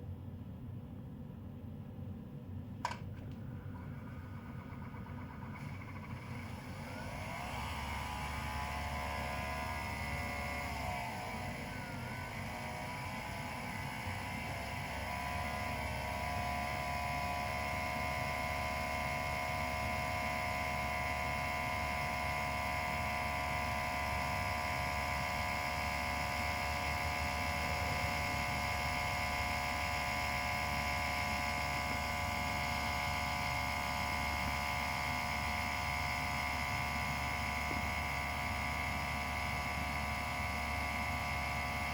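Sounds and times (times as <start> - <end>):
air conditioning whine and hum: 0.0 - 41.9.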